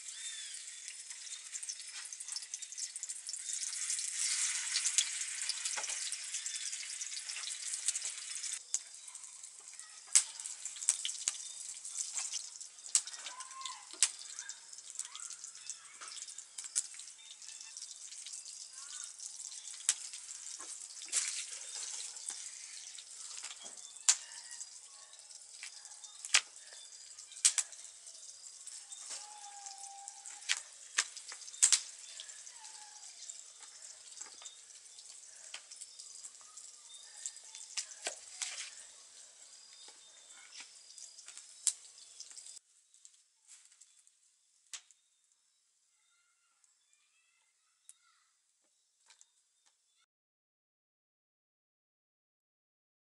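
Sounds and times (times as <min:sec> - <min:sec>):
sausages sizzling in pan: 0:00.0 - 0:46.0.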